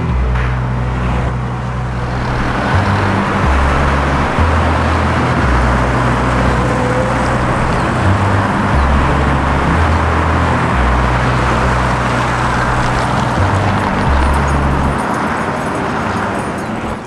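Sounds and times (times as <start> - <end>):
music with slow bass line: 0.0 - 15.3
city road traffic: 0.0 - 17.0.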